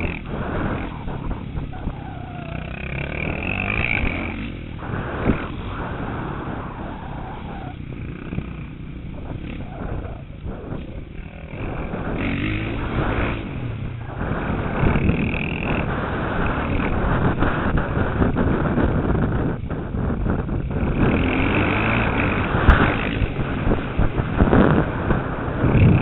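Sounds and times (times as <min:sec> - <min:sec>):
motocross bike engine revving: 0:00.0 - 0:26.0
wind buffeting microphone: 0:00.0 - 0:26.0.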